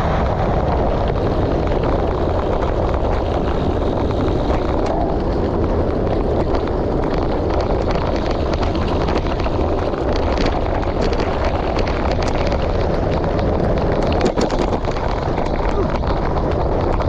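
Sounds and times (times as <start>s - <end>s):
bicycle tyres rolling on gravel: 0.0s - 17.0s
wind noise on microphone: 0.0s - 17.0s
stones clicking and rattling: 2.9s - 17.0s.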